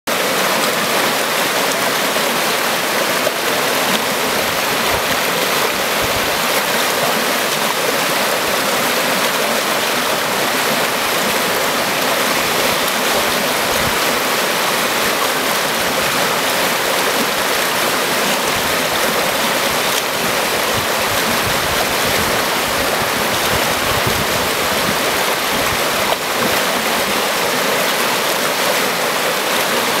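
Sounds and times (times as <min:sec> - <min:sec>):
river rushing over rocks: 0:00.1 - 0:30.0.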